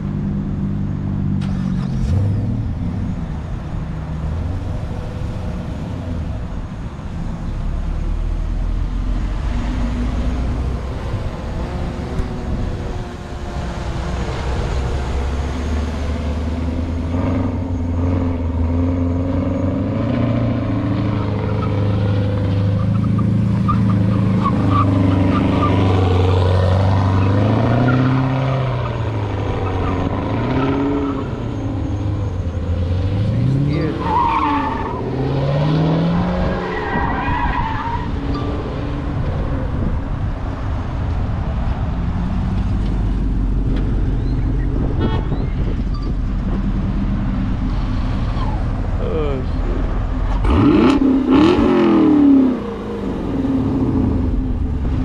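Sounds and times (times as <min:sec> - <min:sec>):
car engine revving: 0:07.2 - 0:41.2, 0:41.8 - 0:55.0.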